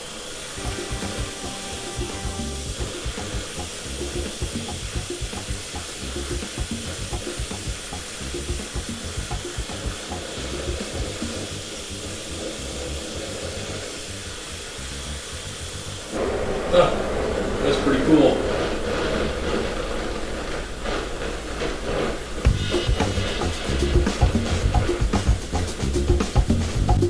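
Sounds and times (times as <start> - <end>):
torch flame hissing: 0.0 - 27.0.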